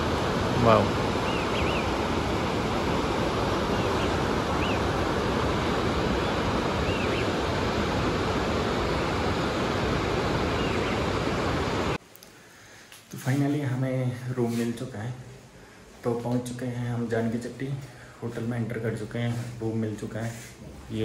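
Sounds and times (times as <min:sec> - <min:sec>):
mountain river rushing: 0:00.0 - 0:12.0, 0:12.6 - 0:21.0.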